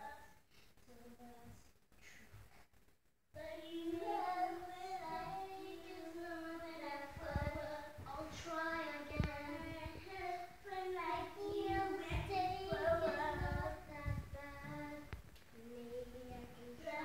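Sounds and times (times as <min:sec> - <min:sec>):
girl singing: 0:00.0 - 0:01.7, 0:03.4 - 0:17.0.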